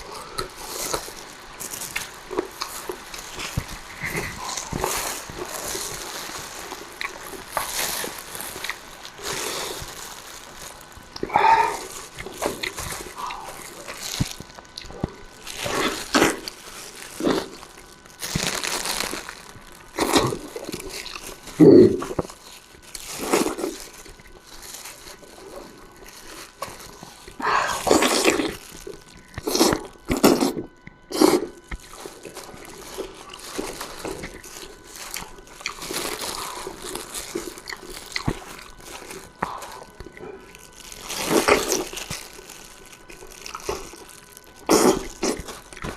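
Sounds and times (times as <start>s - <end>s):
slurping and chewing food: 0.0s - 45.9s.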